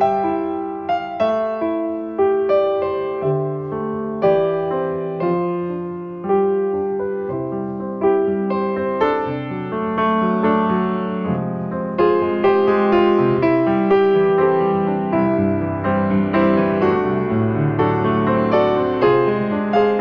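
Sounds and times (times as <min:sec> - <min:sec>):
slow gentle piano chords: 0:00.0 - 0:20.0.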